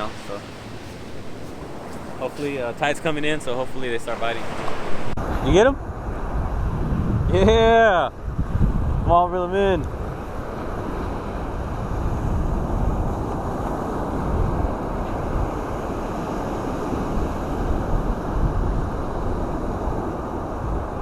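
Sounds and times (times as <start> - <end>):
surf washing on beach: 0.0 - 21.0
wind buffeting microphone: 0.0 - 21.0.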